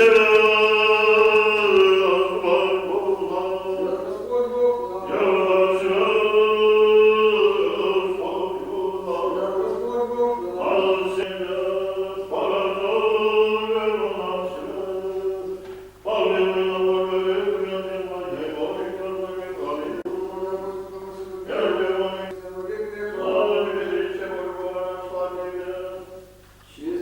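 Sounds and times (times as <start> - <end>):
church choir chanting: 0.0 - 27.0.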